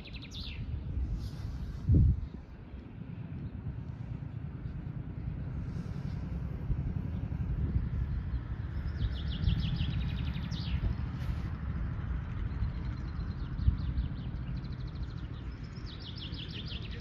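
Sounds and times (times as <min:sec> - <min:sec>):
songbird singing: 0:00.0 - 0:17.0
steady low rumble: 0:00.0 - 0:17.0.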